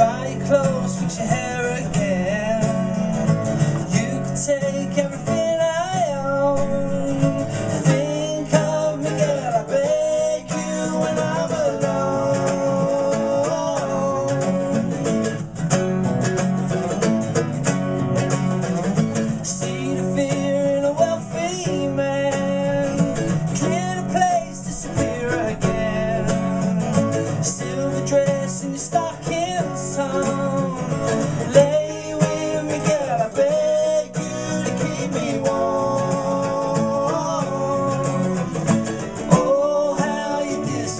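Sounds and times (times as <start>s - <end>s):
man singing: 0.0s - 15.6s, 19.2s - 40.9s
acoustic guitars strumming: 0.0s - 40.9s.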